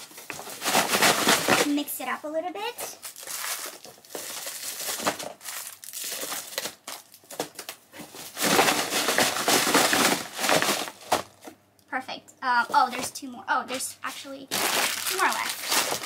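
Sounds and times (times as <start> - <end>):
plastic-wrapped candies crinkling: 0.0 - 11.5, 14.5 - 16.0.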